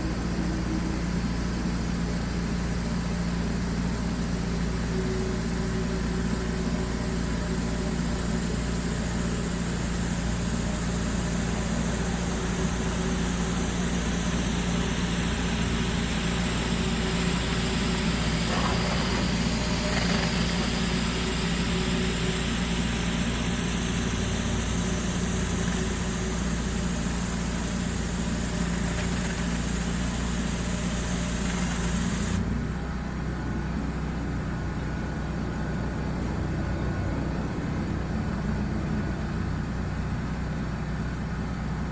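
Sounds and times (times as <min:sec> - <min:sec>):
pressure washer engine drone: 0:00.0 - 0:41.9.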